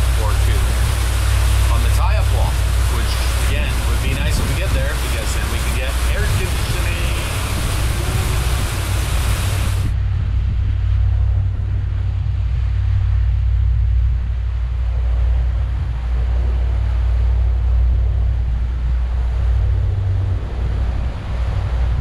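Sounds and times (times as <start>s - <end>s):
boat engines rumbling: 0.0s - 22.0s
wind and water hiss: 0.0s - 22.0s.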